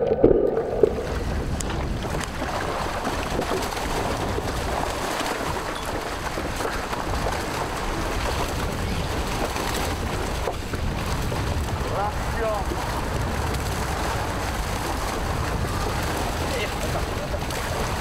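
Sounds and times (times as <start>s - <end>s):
water splashing against boat: 0.0s - 18.0s.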